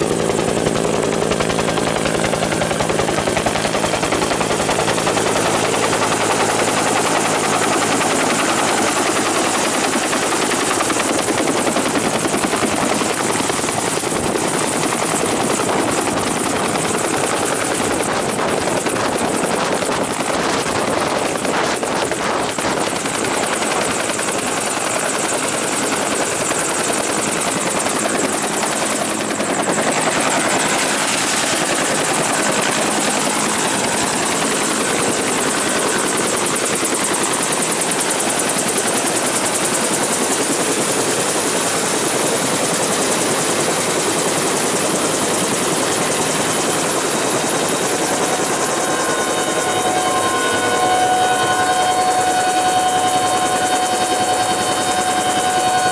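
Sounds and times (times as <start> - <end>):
helicopter rotor and turbine: 0.0 - 55.9.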